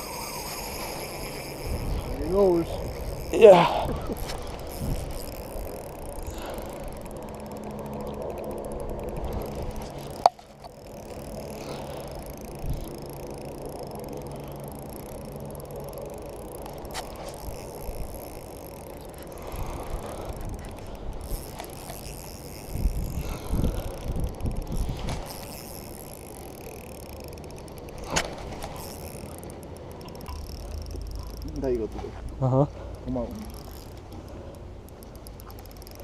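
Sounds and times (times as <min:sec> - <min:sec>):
fishing reel gears whirring: 0:00.0 - 0:36.0
sharp reel clicks: 0:00.0 - 0:36.0.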